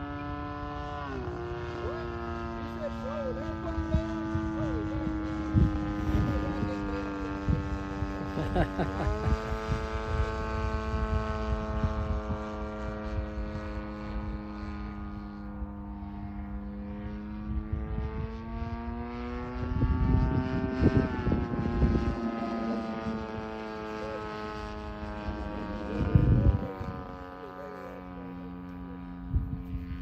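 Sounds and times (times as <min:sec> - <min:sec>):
model plane propeller drone: 0:00.0 - 0:30.0.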